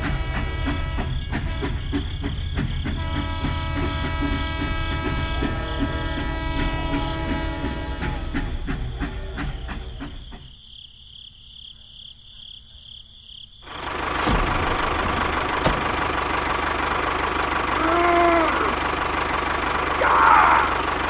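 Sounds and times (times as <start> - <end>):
tractor engine running: 0.0 - 10.6, 13.6 - 21.0.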